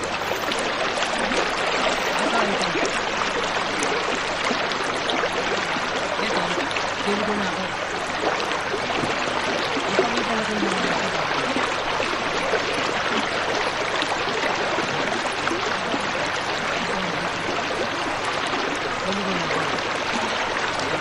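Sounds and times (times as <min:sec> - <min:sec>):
river running over rocks: 0:00.0 - 0:21.0.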